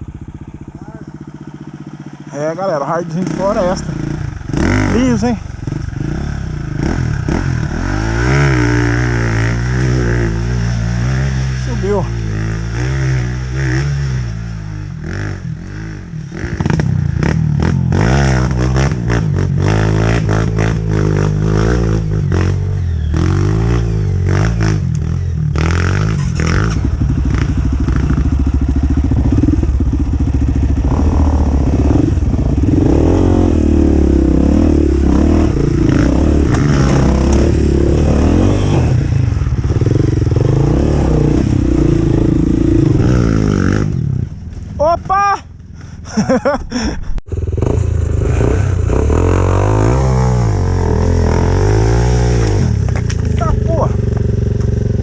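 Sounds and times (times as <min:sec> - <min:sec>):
dirt bike engine revving: 0:00.0 - 0:45.2, 0:46.1 - 0:55.0.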